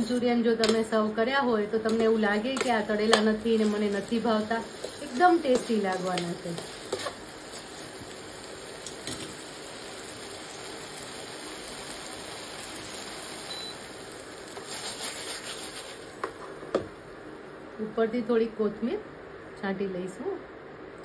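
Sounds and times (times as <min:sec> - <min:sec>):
food sizzling in a frying pan: 0:00.0 - 0:17.2.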